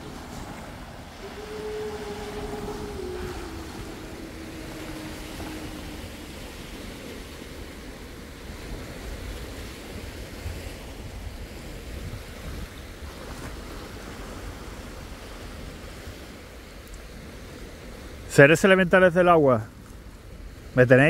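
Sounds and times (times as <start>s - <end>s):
wind buffeting microphone: 0.0s - 18.3s
small waves washing on shore: 0.0s - 21.0s.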